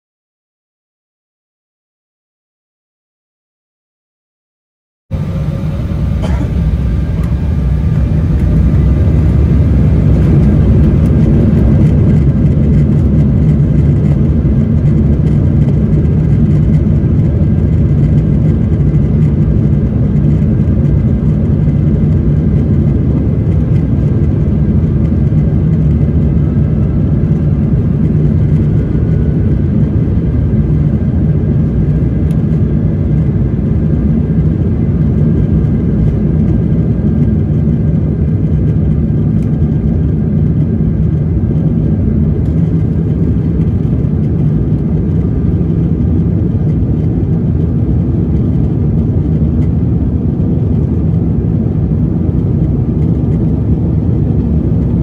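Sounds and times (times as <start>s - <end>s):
jet engines rumbling in cabin: 5.1s - 55.0s.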